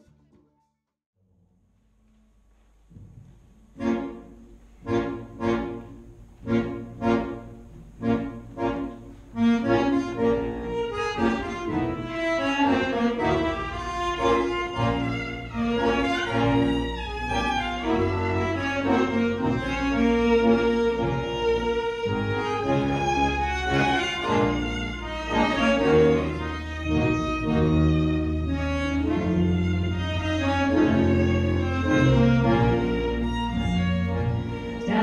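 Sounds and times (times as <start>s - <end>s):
band playing with accordion: 3.8s - 35.0s.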